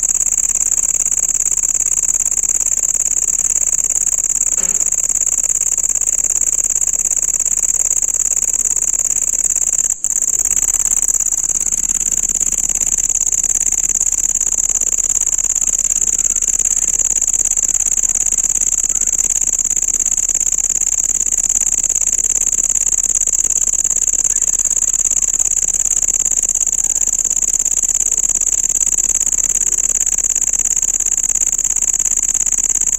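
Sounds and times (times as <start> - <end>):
cricket trilling: 0.0 - 32.9.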